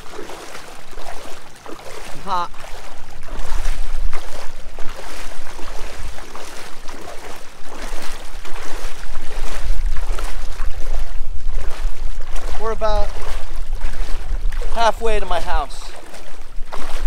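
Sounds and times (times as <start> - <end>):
wading steps splashing water: 0.0 - 17.0.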